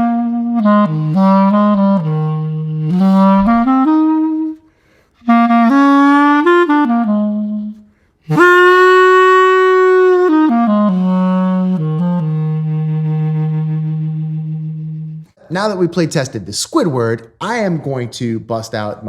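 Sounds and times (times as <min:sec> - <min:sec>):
clarinet playing: 0:00.0 - 0:15.4.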